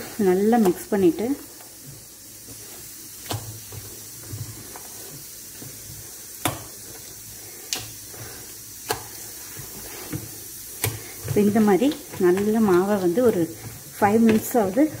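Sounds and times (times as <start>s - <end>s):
batter slapping and squelching: 0.0s - 15.0s
steady hiss: 0.0s - 15.0s.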